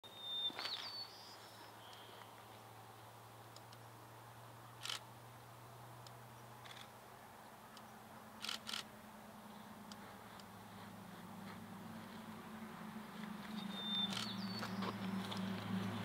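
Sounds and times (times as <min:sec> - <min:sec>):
distant diesel locomotive drone: 0:00.1 - 0:16.0.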